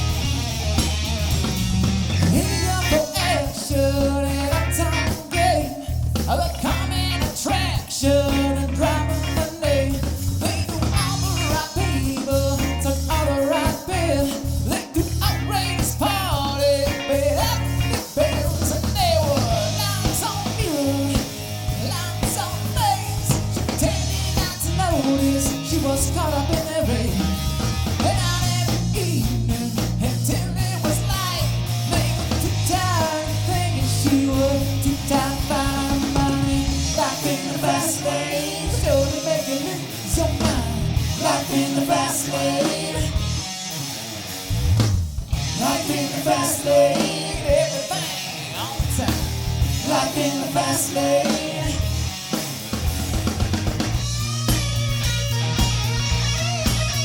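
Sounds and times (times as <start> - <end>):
live rock band playing: 0.0 - 57.0
person singing: 2.3 - 27.4, 28.0 - 43.3, 45.6 - 52.0.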